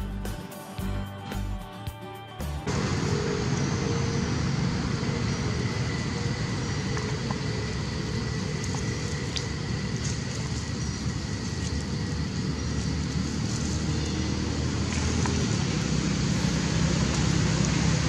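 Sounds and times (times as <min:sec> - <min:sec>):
low outdoor rumble: 0:02.6 - 0:18.0.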